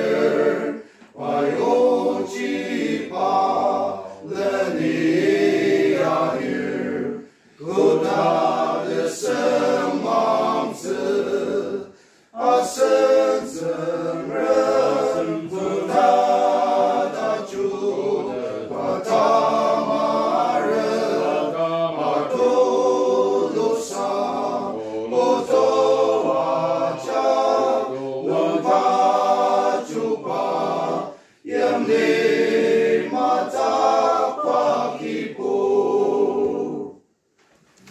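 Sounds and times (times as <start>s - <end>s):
men's group singing a hymn: 0.0s - 37.0s.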